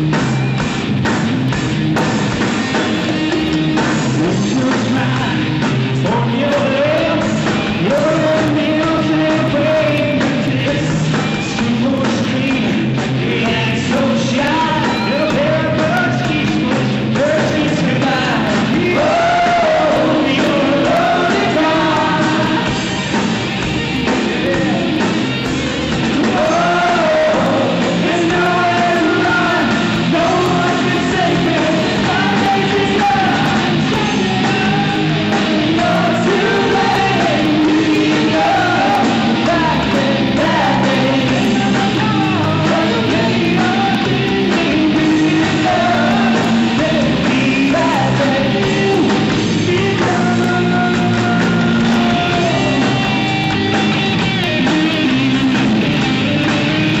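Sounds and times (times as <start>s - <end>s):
drum kit: 0.0s - 57.0s
electric guitars: 0.0s - 57.0s
person singing and shouting: 4.1s - 22.8s, 26.2s - 57.0s.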